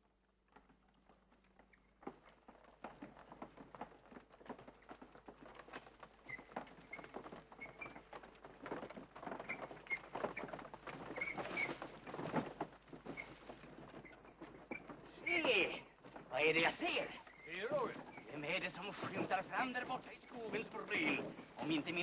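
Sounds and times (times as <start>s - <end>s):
horse hooves: 0.0s - 22.0s
wagon wheels clattering: 0.3s - 22.0s
wheels creaking: 0.5s - 22.0s
footsteps: 1.1s - 22.0s.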